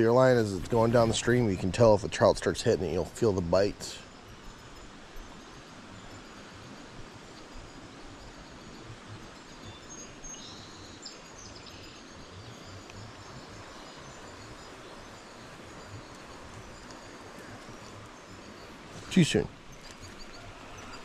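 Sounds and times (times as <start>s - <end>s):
faint bird chirps: 0.8s - 21.0s.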